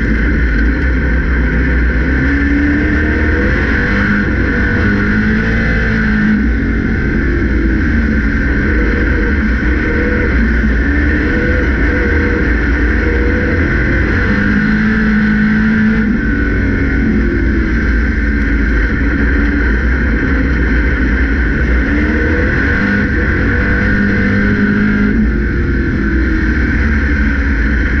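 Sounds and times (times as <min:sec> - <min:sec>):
high whine: 0:00.0 - 0:28.0
race car engine revving: 0:00.0 - 0:28.0.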